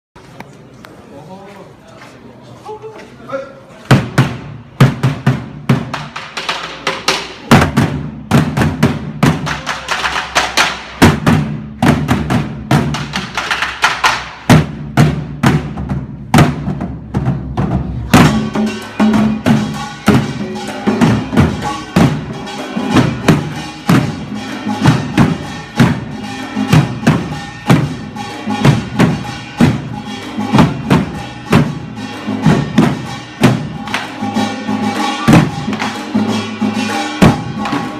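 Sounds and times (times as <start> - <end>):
barrel drums playing a rhythm: 3.9 - 37.9.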